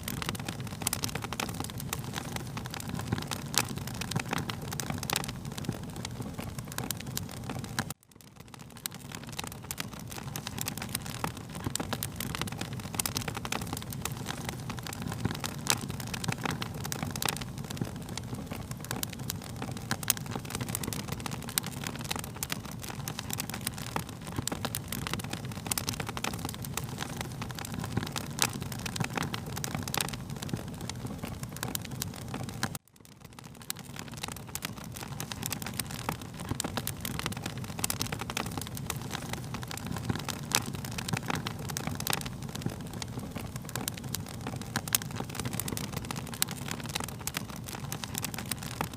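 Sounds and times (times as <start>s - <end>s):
low rumble of burning: 0.0s - 48.9s
wood fire crackling and popping: 0.0s - 48.9s.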